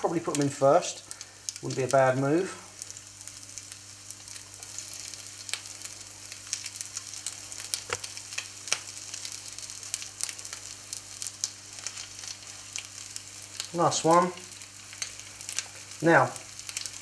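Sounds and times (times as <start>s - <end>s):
fish sizzling in frying pan: 0.0s - 17.0s.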